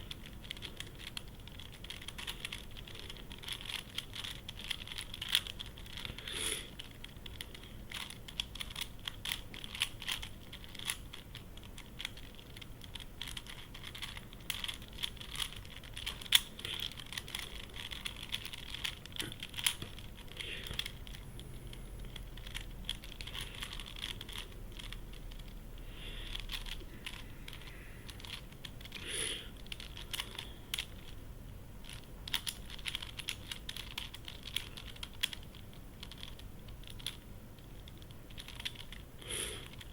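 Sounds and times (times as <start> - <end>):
plastic puzzle clicking: 0.0 - 25.5, 26.4 - 31.2, 31.8 - 37.2, 37.8 - 39.9.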